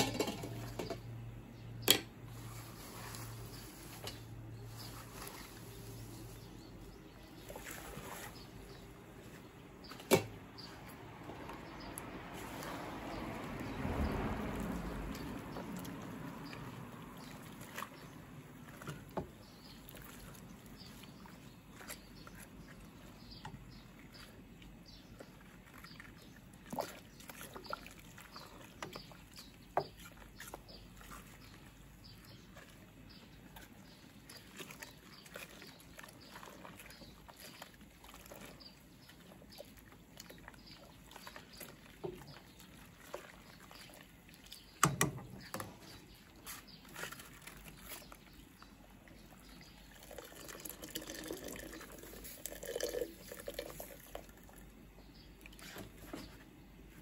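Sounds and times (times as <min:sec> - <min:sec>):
boiling water bubbling: 0:03.0 - 0:56.2.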